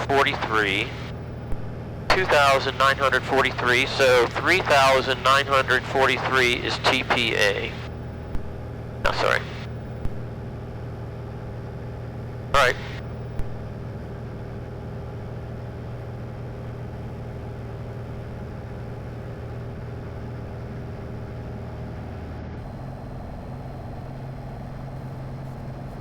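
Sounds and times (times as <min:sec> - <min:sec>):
propeller plane engine droning: 0:00.0 - 0:26.0.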